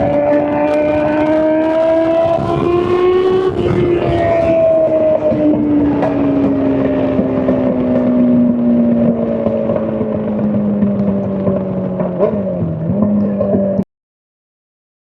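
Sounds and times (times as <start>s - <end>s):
motorcycle engine at high revs: 0.0s - 13.8s.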